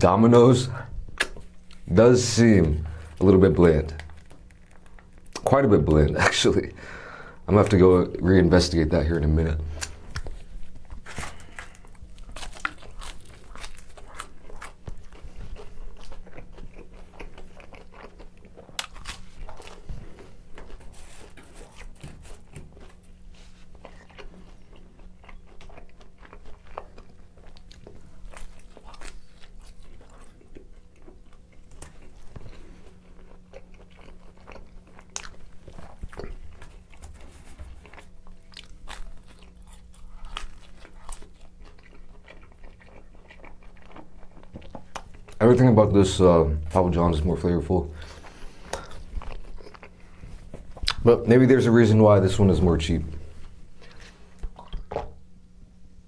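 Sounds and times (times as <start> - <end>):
biting and chewing crunchy pizza: 0.0 - 6.7, 7.5 - 55.8
faint steady hum: 0.0 - 56.0.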